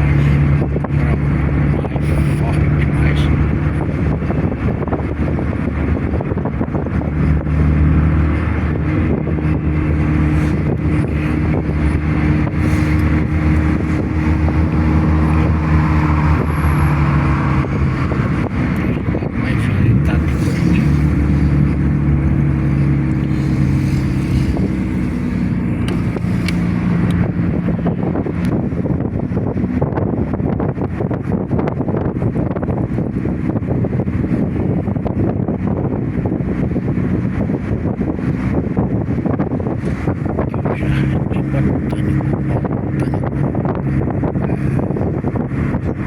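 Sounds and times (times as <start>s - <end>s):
sports car engine running: 0.0s - 46.0s
tyre and road noise: 0.0s - 46.0s.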